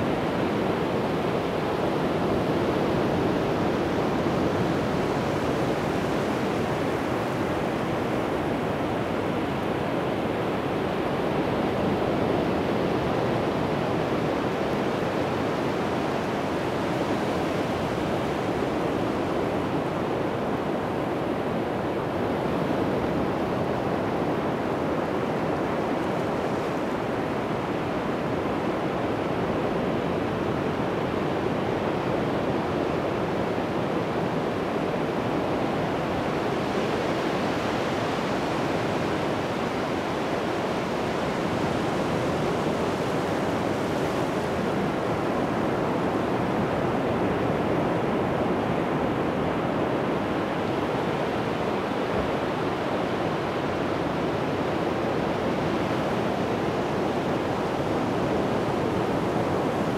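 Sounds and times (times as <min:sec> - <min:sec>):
surf waves breaking on beach: 0:00.0 - 0:59.9.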